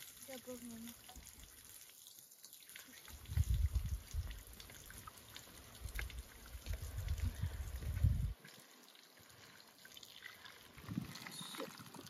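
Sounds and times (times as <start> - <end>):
water trickling into basin: 0.0 - 12.0.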